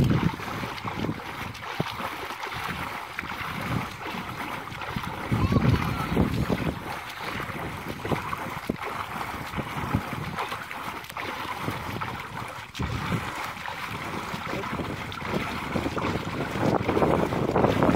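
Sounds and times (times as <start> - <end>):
hands splashing in water: 0.0 - 17.9
wind buffeting microphone: 0.0 - 17.9.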